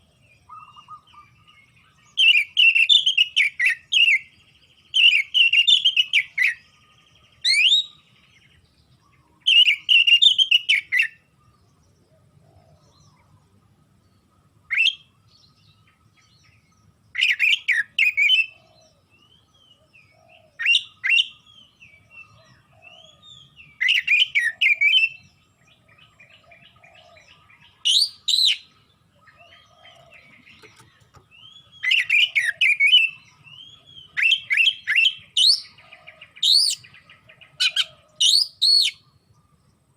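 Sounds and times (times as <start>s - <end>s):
bird singing chirps and whistles: 0.0s - 13.4s, 14.0s - 39.5s.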